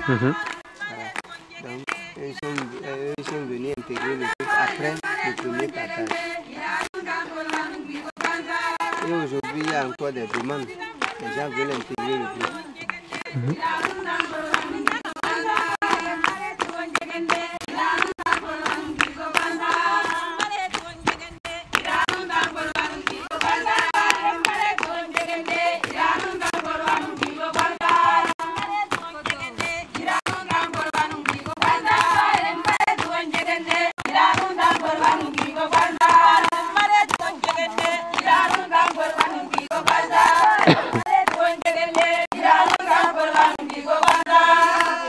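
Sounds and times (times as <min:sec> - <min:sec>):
hands clapping: 0:00.0 - 0:45.0
women singing together: 0:00.0 - 0:45.0.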